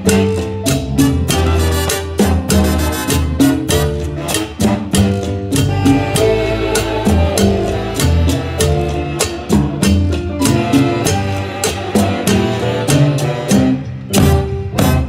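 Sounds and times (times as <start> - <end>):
big band music: 0.0 - 15.0.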